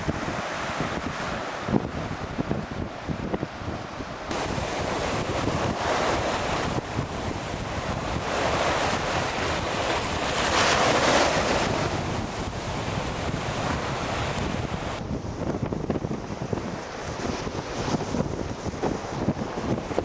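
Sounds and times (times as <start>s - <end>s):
waves and water sloshing: 0.0s - 20.0s
wind rushing over microphone: 0.0s - 20.0s.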